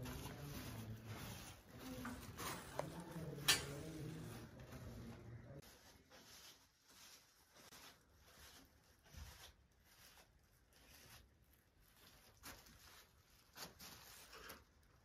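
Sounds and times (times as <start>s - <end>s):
soft rustling: 0.0s - 15.0s.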